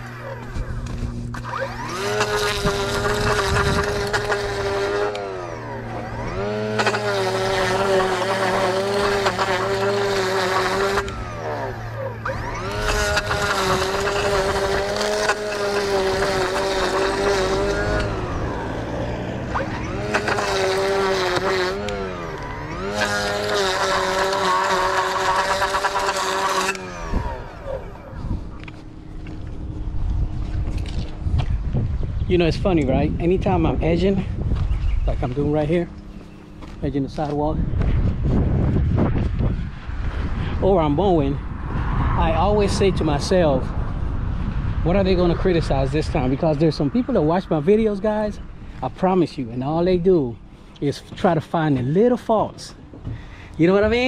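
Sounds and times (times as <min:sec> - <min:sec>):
lawn edger revving: 0:00.0 - 0:31.4, 0:32.4 - 0:37.8, 0:38.8 - 0:44.0, 0:44.8 - 0:54.0.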